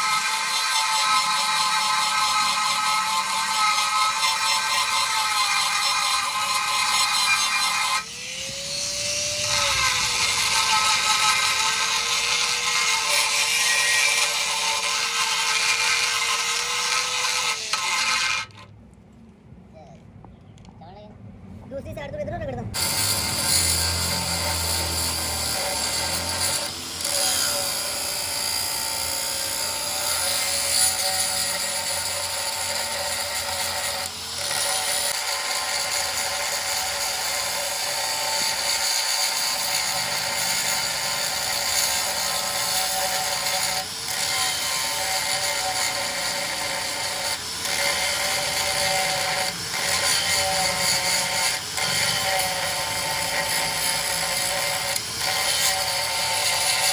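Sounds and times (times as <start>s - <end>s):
power tool whining: 0.0s - 18.7s, 22.8s - 56.9s.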